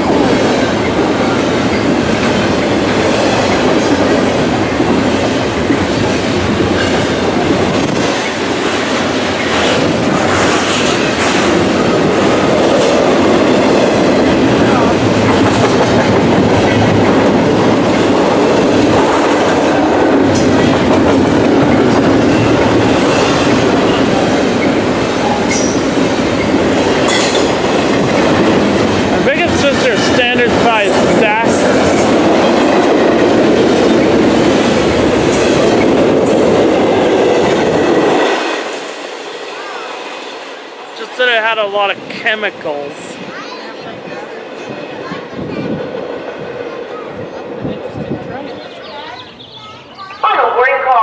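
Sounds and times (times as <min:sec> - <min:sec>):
freight train passing: 0:00.0 - 0:51.0.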